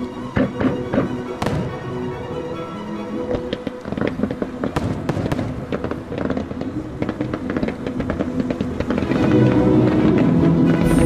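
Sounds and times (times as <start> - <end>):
background music: 0.0 - 11.0
fireworks bangs and crackles: 0.0 - 11.0.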